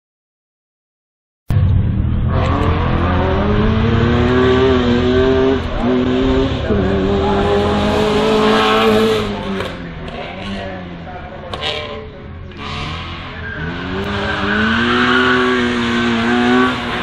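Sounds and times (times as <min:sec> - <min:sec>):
race car engine accelerating: 0:01.5 - 0:17.0.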